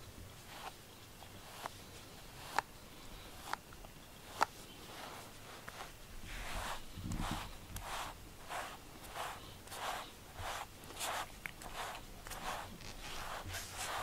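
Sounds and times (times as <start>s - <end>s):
brush strokes through cat fur: 0.3s - 14.0s.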